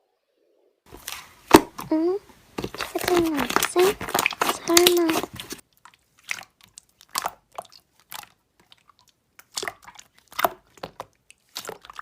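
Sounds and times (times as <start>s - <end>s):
slime crackling and popping: 0.9s - 12.0s.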